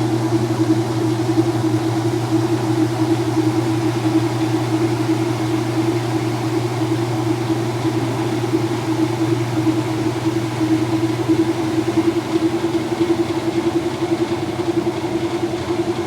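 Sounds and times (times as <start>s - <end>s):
washing machine spin hum: 0.0s - 16.0s.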